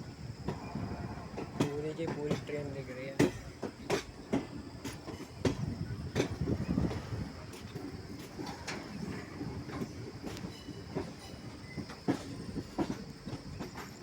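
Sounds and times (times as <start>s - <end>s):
train rumbling: 0.0s - 14.0s
wheels clacking and knocking: 0.3s - 14.0s.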